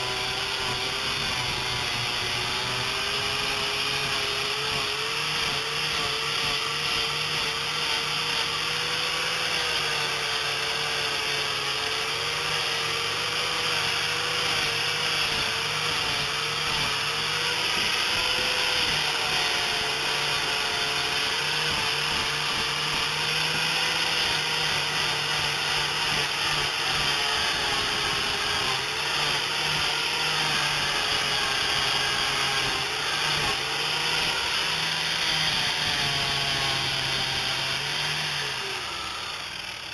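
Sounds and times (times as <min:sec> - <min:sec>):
angle grinder sanding: 0:00.0 - 0:39.9.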